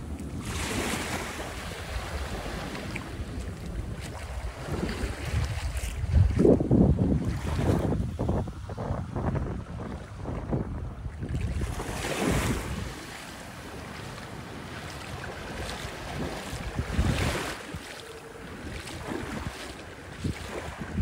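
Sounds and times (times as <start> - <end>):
small waves washing on sand: 0.0 - 21.0
wind rumbling on microphone: 0.0 - 21.0.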